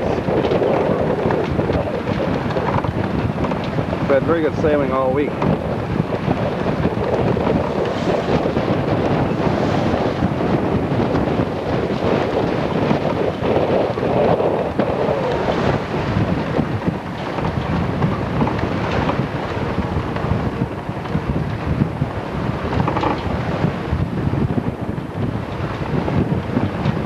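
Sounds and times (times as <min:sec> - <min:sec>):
water rushing past hull: 0:00.0 - 0:27.0
wind buffeting microphone: 0:00.0 - 0:27.0.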